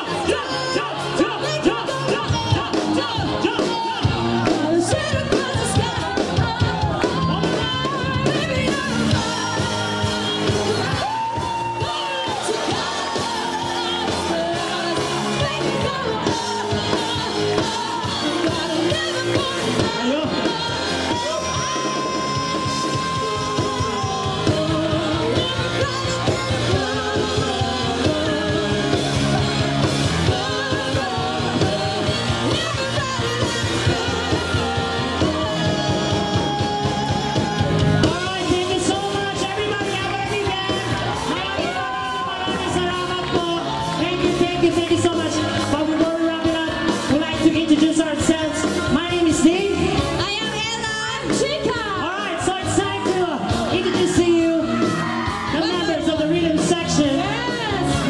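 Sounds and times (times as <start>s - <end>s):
live band playing pop-rock: 0.0s - 58.0s
woman singing: 0.0s - 58.0s.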